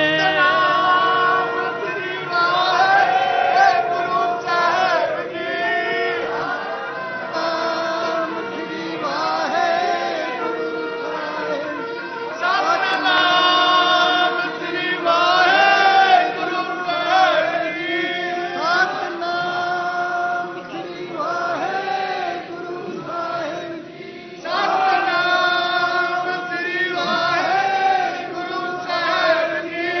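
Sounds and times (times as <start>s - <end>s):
male voices chanting a hymn: 0.0s - 30.0s.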